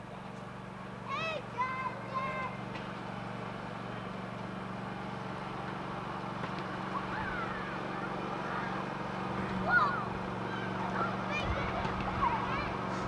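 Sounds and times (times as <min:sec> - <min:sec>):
distant small tractor engine: 0:00.0 - 0:13.0.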